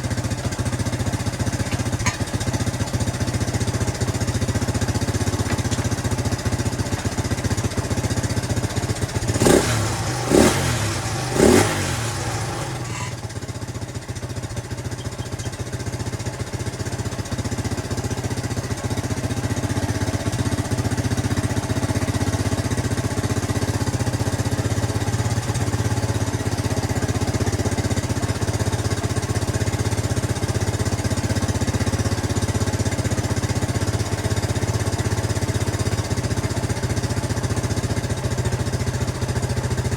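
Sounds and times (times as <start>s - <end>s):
engine idling with throttle blips: 0.0s - 39.9s.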